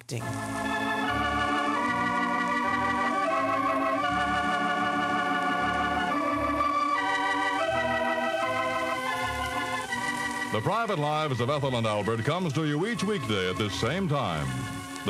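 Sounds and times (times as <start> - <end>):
organ playing held chords: 0.2 - 15.0.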